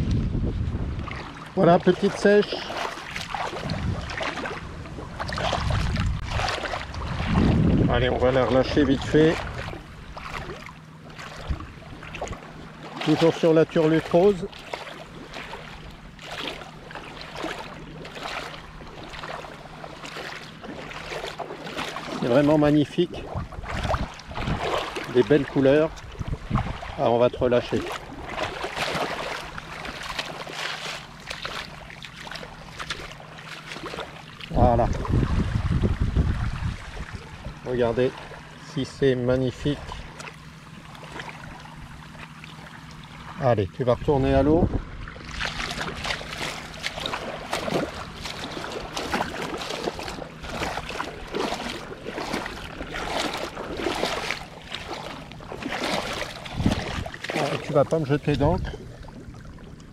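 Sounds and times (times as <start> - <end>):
continuous water wash: 0.0 - 59.9
seawater splashing around legs: 0.9 - 59.9.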